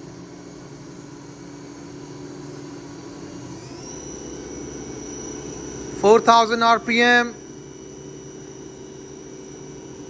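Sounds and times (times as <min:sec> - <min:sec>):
machine spindle whining: 0:00.0 - 0:10.0.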